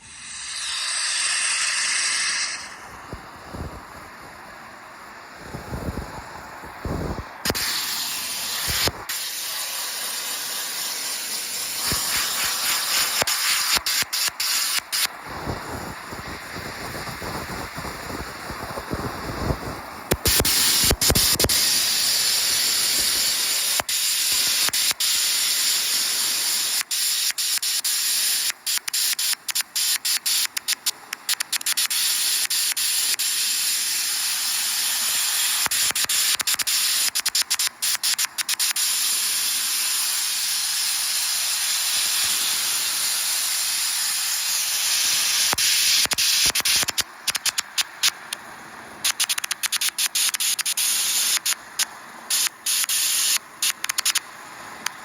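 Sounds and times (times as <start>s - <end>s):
sandblasting nozzle hissing: 0.0s - 48.1s, 49.0s - 51.6s, 52.3s - 54.2s.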